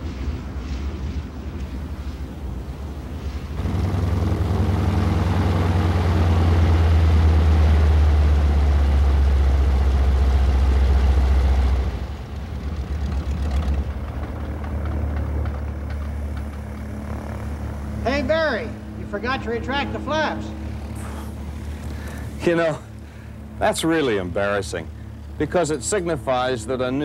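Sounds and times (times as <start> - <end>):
radial aircraft engine droning: 0.0 - 27.0.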